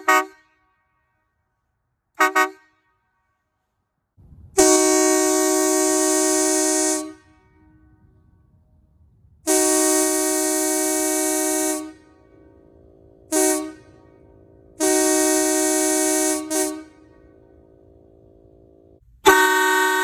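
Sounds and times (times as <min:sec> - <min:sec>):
truck air horn blasts: 0:00.0 - 0:01.3, 0:02.2 - 0:03.5, 0:04.5 - 0:08.6, 0:09.4 - 0:20.0.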